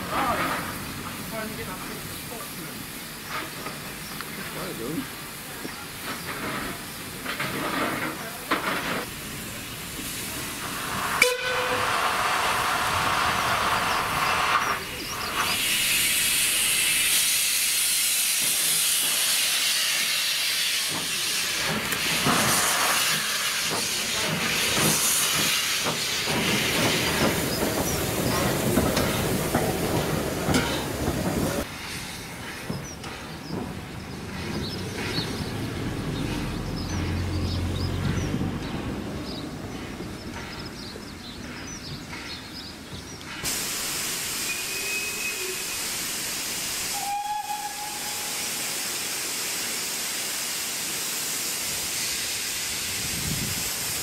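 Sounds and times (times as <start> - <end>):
steam hissing from locomotive: 0.0 - 38.3, 39.3 - 54.0.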